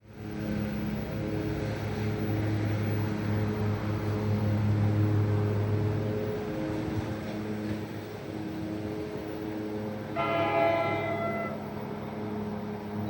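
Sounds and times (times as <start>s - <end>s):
train locomotive engine hum: 0.0s - 13.0s.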